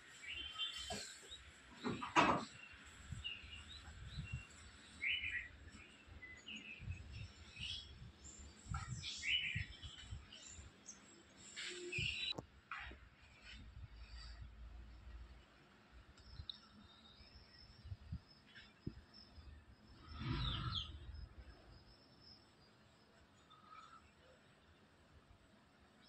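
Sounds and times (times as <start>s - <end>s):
birds chirping: 0.1s - 12.4s, 16.0s - 25.1s.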